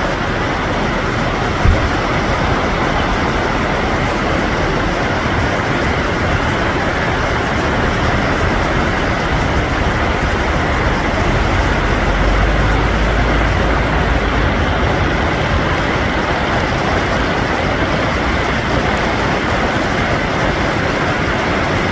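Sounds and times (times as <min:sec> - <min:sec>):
train rumbling past: 0:00.0 - 0:21.9.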